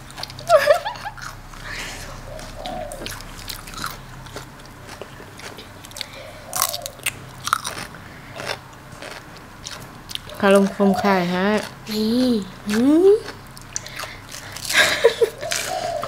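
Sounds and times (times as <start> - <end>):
crunching and chewing vegetables: 0.0 - 16.0.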